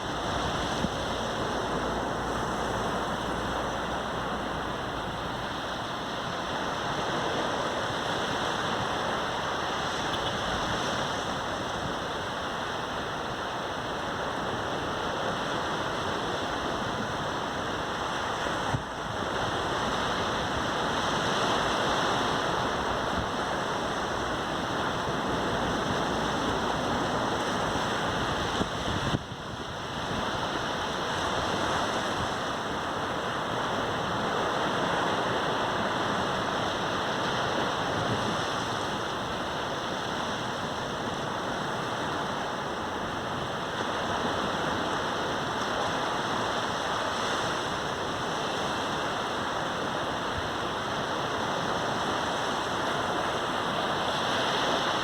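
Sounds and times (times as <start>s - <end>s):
waves breaking on sandy beach: 0.0s - 55.0s.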